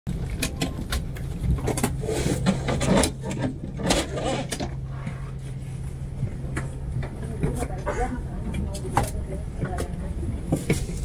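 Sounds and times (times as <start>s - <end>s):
steady low cabin hum: 0.1s - 11.0s.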